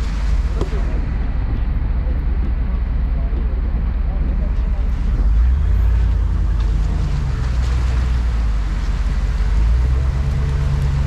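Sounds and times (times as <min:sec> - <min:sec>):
engine droning under load: 0:00.0 - 0:11.0.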